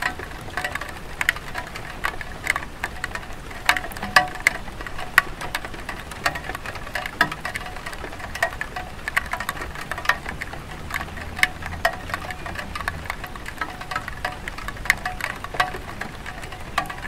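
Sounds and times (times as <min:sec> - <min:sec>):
light rain hiss on tile roof: 0:00.0 - 0:17.0
raindrops tapping: 0:00.0 - 0:17.0.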